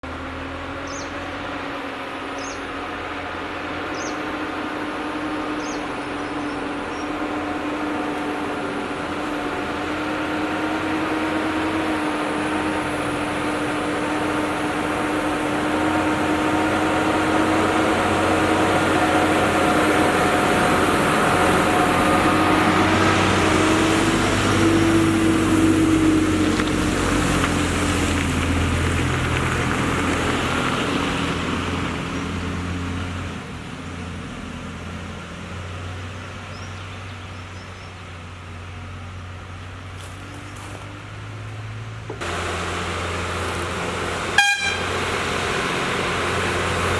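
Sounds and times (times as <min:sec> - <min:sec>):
lorry diesel engine pulling uphill: 0:00.0 - 0:46.9.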